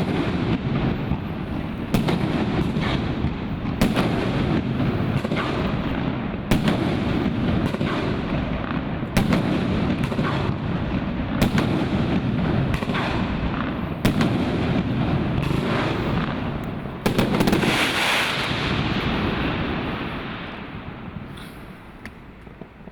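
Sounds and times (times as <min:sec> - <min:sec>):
firework cake shots: 0:00.0 - 0:22.9
rumble of firework bursts: 0:00.0 - 0:22.9.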